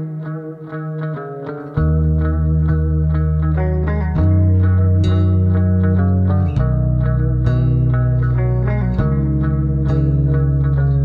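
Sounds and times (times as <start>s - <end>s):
held chords: 0.0s - 11.0s
plucked guitar with effects: 0.0s - 11.0s
deep bass: 1.8s - 11.0s.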